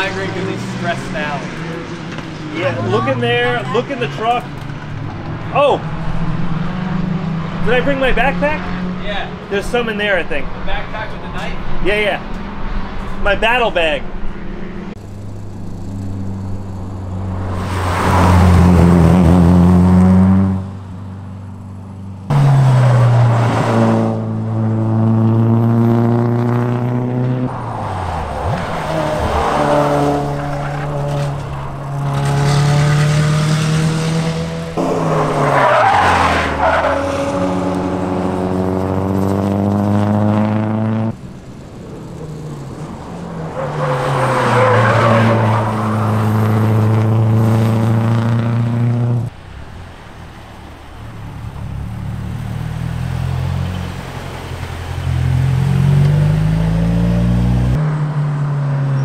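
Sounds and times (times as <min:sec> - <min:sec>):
race car engine revving: 0:00.0 - 0:13.0, 0:14.1 - 0:20.8, 0:21.4 - 0:49.4, 0:51.2 - 0:58.2.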